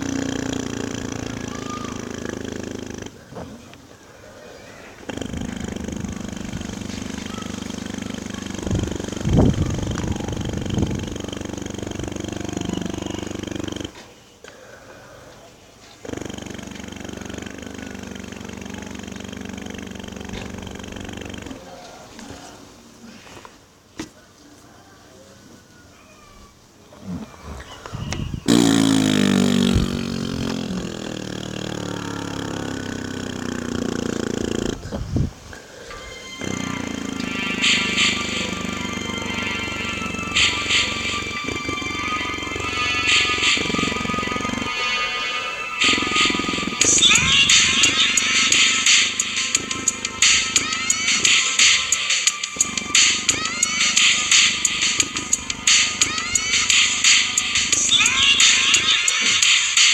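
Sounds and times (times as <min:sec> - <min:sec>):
loud buzzing bass from speaker: 0:00.0 - 0:03.5, 0:05.0 - 0:14.0, 0:16.0 - 0:21.7, 0:28.0 - 0:35.5, 0:36.3 - 0:59.9.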